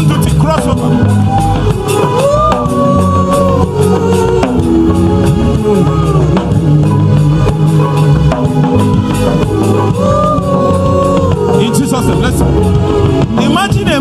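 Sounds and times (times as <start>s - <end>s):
drum kit beat: 0.0s - 14.0s
gospel band music: 0.0s - 14.0s.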